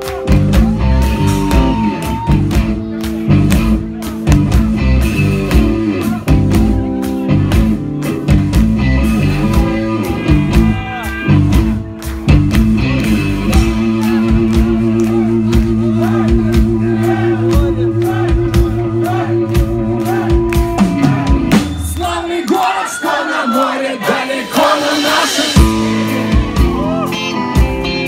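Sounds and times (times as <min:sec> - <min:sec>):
guitar: 0:00.0 - 0:28.0
steady drum beat: 0:00.0 - 0:28.0.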